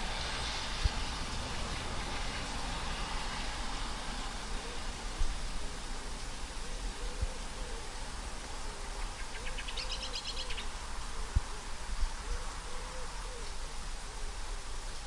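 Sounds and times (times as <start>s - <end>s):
rain on foliage: 0.0s - 12.1s.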